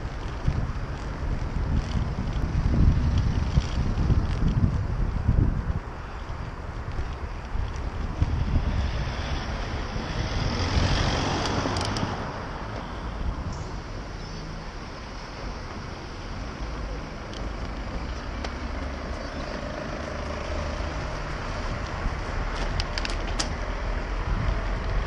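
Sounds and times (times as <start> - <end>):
street traffic noise: 0.0 - 25.0
wind rumble on microphone: 0.0 - 25.0.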